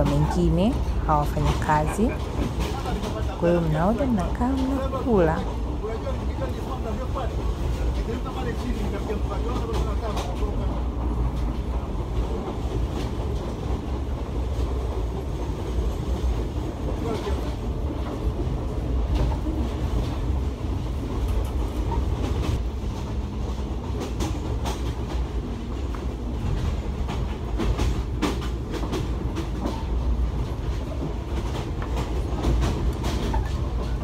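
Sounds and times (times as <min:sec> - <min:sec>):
train carriage rumble: 0:00.0 - 0:34.0
wheels clacking over rail joints: 0:00.0 - 0:34.0.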